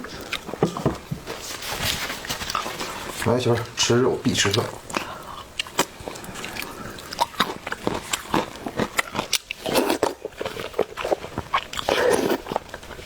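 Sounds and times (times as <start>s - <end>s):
person chewing meat: 0.0s - 0.8s, 2.4s - 13.0s.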